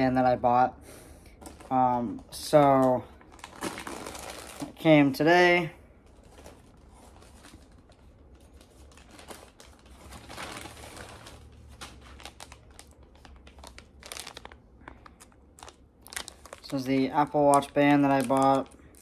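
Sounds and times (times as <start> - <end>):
plastic packaging crinkling: 1.4 - 19.0.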